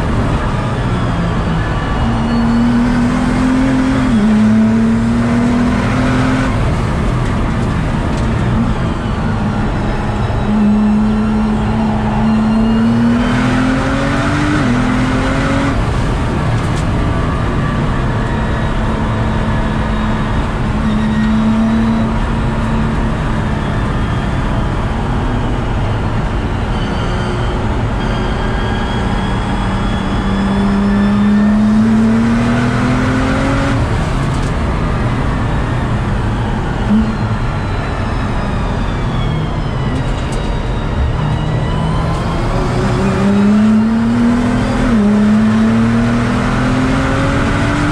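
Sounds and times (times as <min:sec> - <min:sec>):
car engine accelerating: 0:00.0 - 0:47.9
road and tyre noise: 0:00.0 - 0:47.9.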